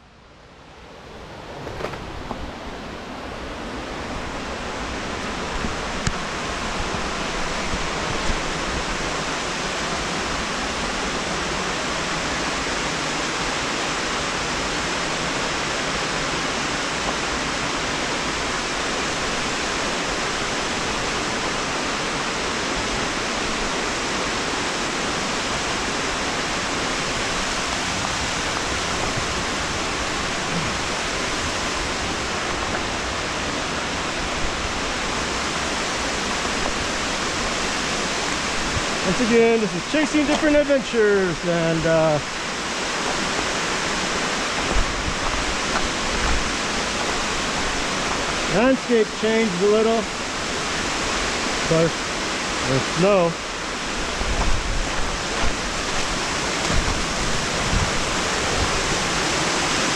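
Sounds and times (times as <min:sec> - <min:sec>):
cascading water: 0:00.0 - 0:59.9.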